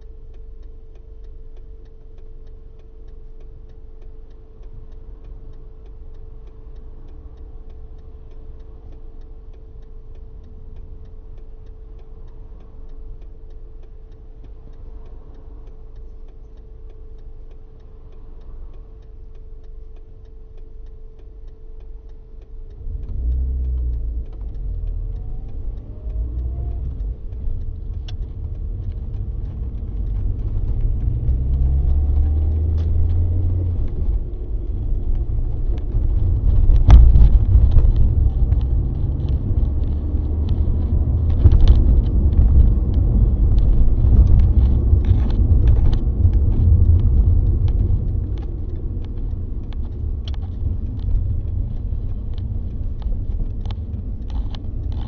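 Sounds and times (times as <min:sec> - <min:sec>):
car engine idling: 0:00.0 - 0:55.0
faint rapid ticking: 0:00.0 - 0:55.0
road rumble: 0:00.0 - 0:55.0.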